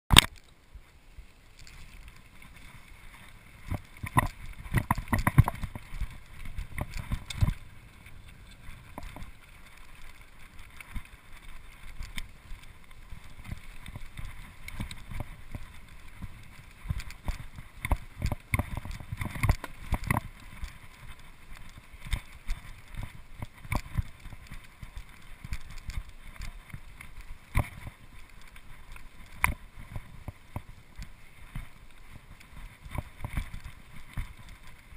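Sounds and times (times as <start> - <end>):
bike tyres rumbling on trail: 0.1 - 34.9
bike frame rattling: 1.6 - 34.9.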